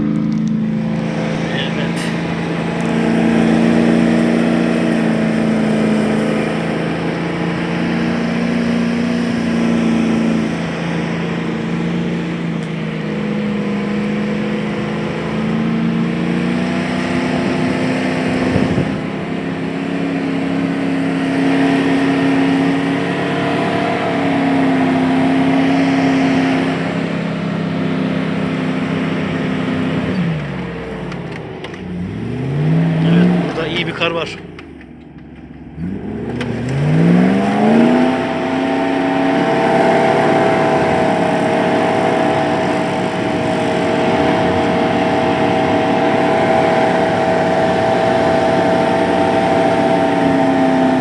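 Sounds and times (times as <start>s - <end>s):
engine revving under load: 0.0s - 51.0s.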